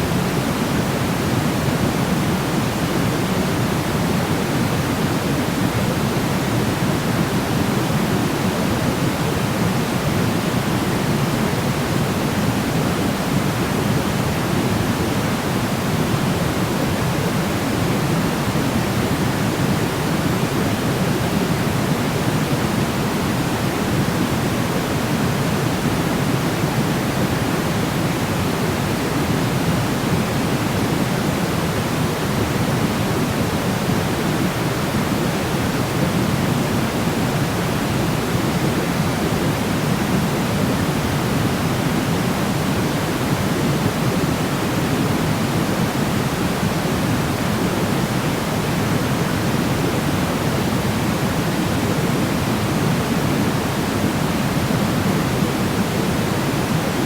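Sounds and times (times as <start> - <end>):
steady pink noise: 0.0 - 57.0.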